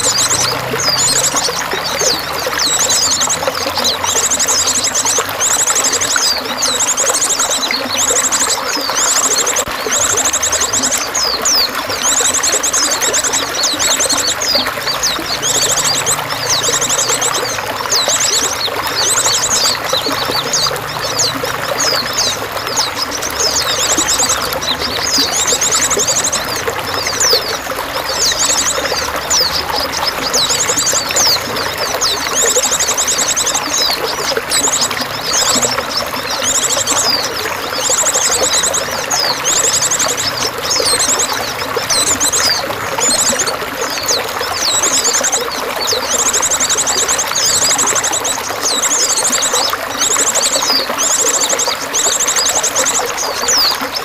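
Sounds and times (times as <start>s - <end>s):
songbirds chirping and trilling: 0.0s - 54.0s
water pouring and splashing: 0.0s - 54.0s.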